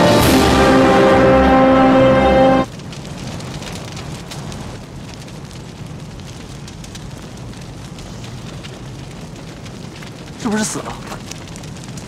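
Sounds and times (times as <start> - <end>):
fire crackling: 0.0 - 12.0
fire rumbling: 0.0 - 12.0.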